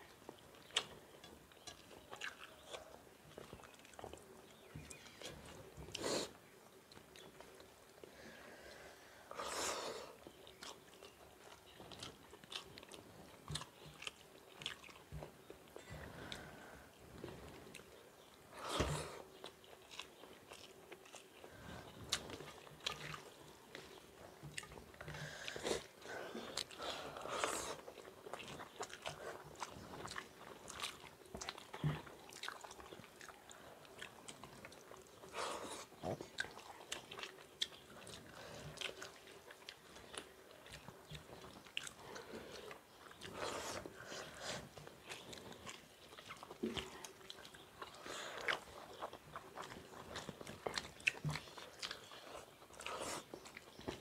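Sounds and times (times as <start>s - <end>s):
people chewing food: 0.0s - 54.0s.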